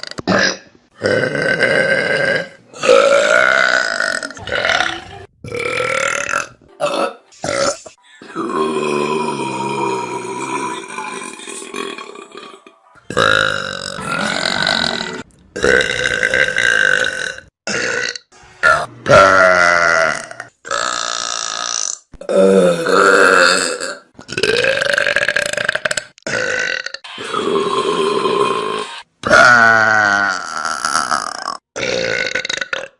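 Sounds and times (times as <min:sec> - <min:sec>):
person burping: 0:00.0 - 0:32.9.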